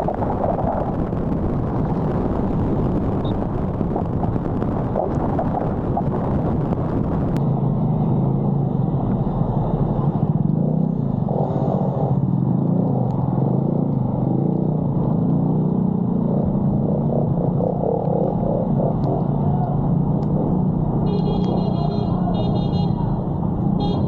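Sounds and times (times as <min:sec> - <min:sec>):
low vehicle rumble: 0:00.0 - 0:22.4.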